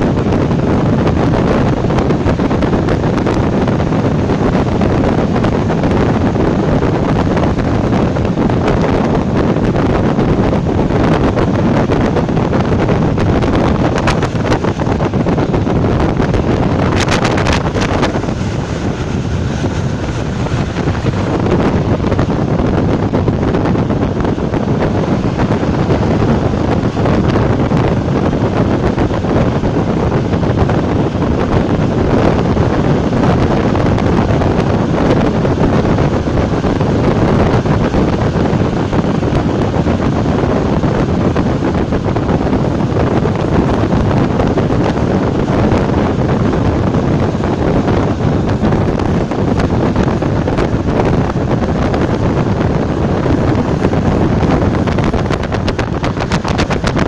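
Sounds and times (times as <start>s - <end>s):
wind buffeting microphone: 0.0s - 57.0s
electric train running: 1.2s - 57.0s.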